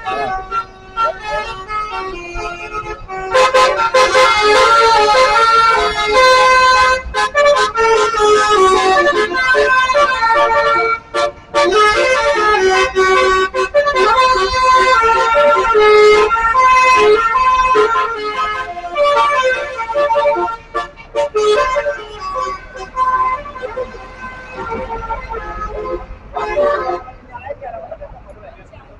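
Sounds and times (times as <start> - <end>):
multi-tone bus air horn tune: 0.0 - 27.4.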